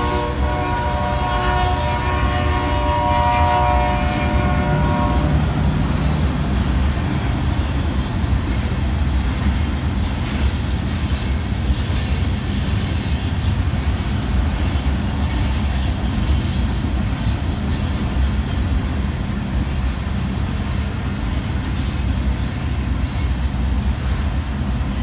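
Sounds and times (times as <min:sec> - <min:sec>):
freight train rumbling past: 0:00.0 - 0:25.0
high wheel squeals: 0:03.4 - 0:25.0.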